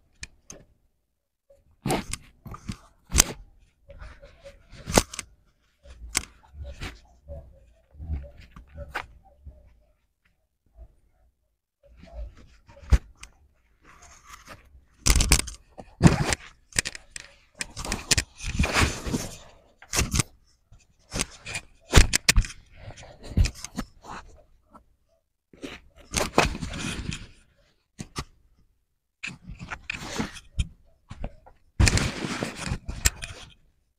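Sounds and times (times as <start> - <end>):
rustling and scraping: 1.6 - 28.4, 29.2 - 33.8.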